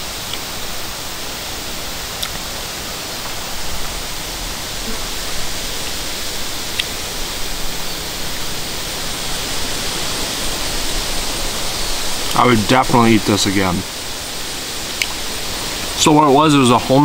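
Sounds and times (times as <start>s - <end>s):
steady rushing hiss: 0.0s - 17.0s.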